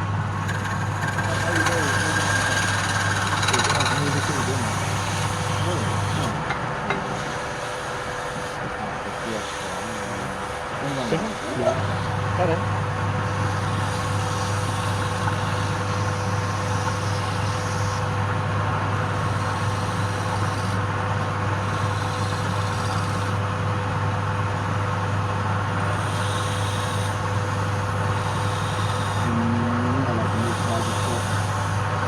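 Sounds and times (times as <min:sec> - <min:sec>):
wood lathe humming: 0:00.0 - 0:32.0.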